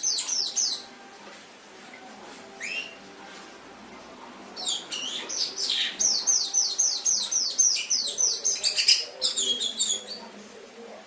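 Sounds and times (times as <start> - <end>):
canary singing: 0.0 - 1.2, 1.8 - 10.4.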